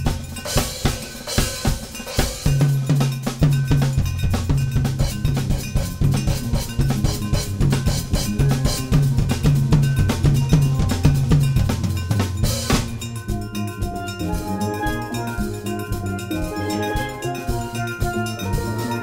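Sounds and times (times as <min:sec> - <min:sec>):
cymbal wash: 0:00.0 - 0:19.0
steel band playing: 0:00.0 - 0:19.0.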